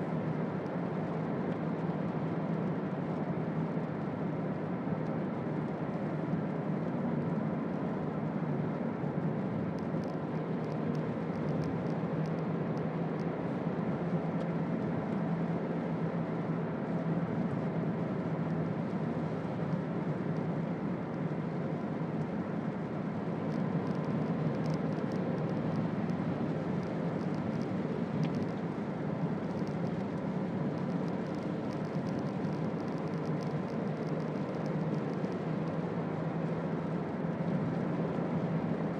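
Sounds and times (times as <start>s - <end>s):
road and tyre noise: 0.0s - 38.9s.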